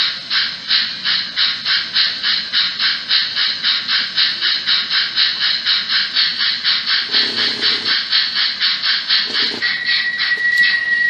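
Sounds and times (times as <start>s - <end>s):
rhythmic steam chuffs: 0.0s - 11.0s.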